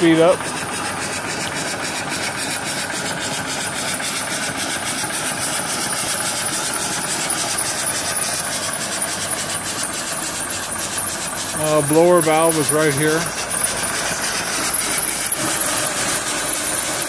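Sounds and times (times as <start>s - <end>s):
steam engine exhaust beat: 0.0s - 17.0s
steam hissing: 0.0s - 17.0s.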